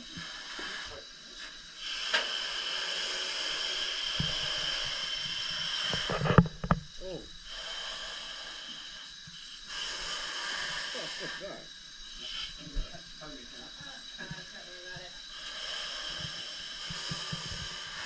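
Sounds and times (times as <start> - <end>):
gas hissing: 0.0 - 18.0.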